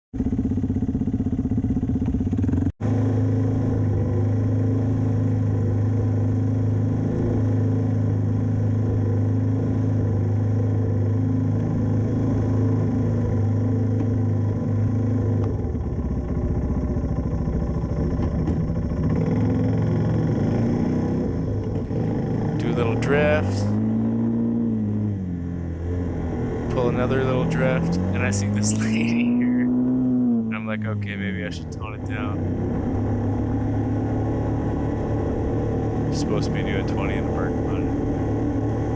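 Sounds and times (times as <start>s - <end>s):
atv engine running: 0.2s - 38.9s.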